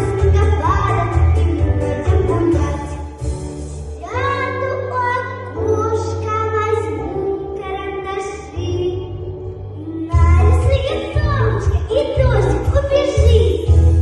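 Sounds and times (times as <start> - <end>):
instrumental backing track: 0.0 - 14.0.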